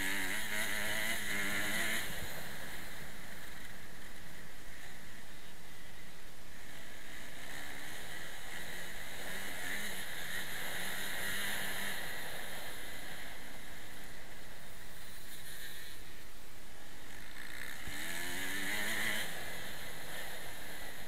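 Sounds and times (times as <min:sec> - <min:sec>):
motocross bike engine running: 0:00.0 - 0:16.2, 0:16.8 - 0:21.0.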